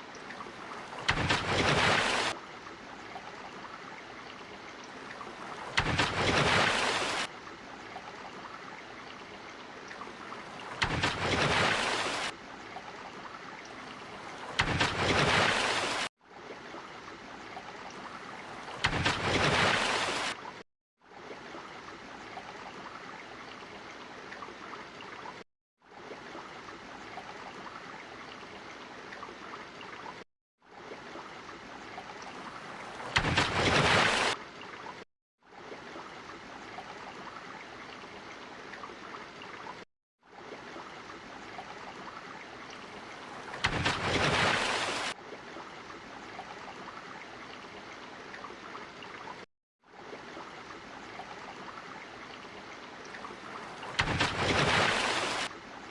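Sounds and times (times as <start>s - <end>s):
ocean water wash: 0.0s - 55.9s.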